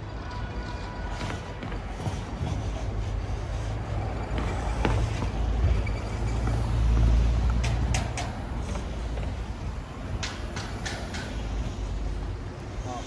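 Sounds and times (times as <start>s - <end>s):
passing motor vehicle rumble: 0.0s - 13.0s.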